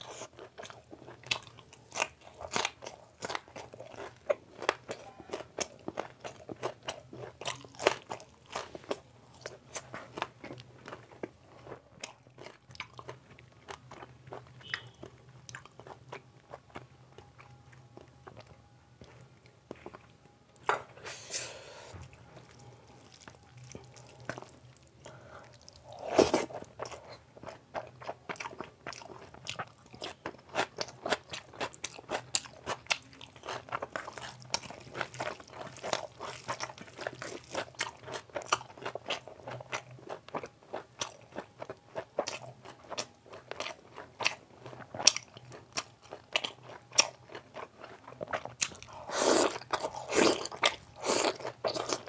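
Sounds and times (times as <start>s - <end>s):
chewing: 0.0s - 20.8s, 21.9s - 52.0s.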